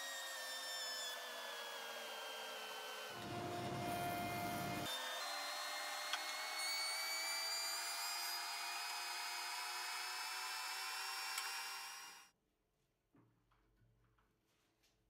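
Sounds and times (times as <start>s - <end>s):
planer whining: 0.0s - 12.2s.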